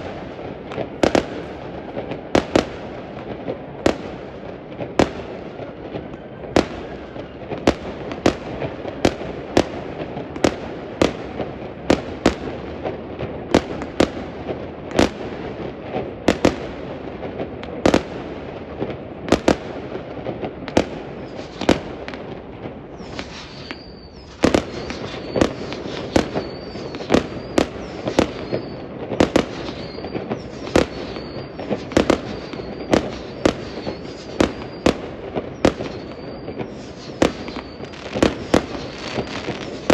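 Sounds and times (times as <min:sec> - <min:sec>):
fireworks whistles: 0:00.0 - 0:16.9, 0:17.7 - 0:39.9
fireworks bangs: 0:00.0 - 0:39.9
fireworks rumble and crackle: 0:00.0 - 0:39.9.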